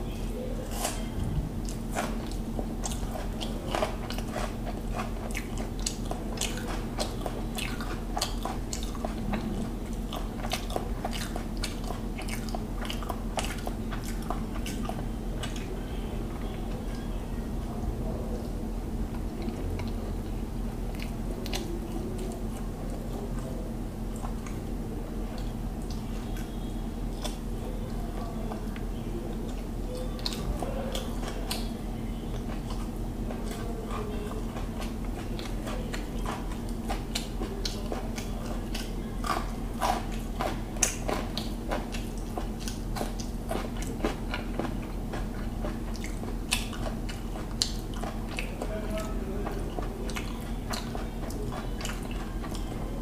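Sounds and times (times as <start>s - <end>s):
steady low hum: 0.0s - 53.0s
person chewing: 0.1s - 17.2s, 18.4s - 53.0s.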